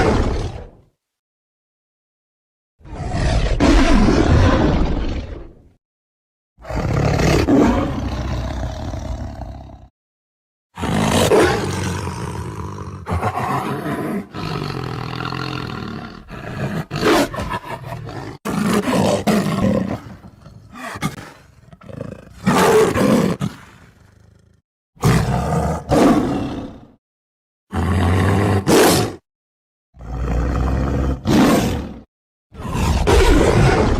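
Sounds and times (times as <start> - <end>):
tiger roaring: 2.8 - 5.6, 6.6 - 9.9, 10.8 - 27.0, 27.7 - 29.2, 30.0 - 33.9.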